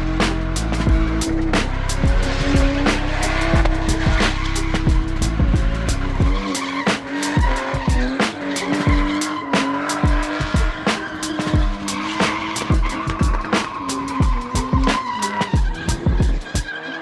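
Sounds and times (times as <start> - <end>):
car engine at high revs: 0.0 - 16.1
music with heavy bass beat: 0.0 - 16.7
tyres squealing and skidding: 0.1 - 17.0.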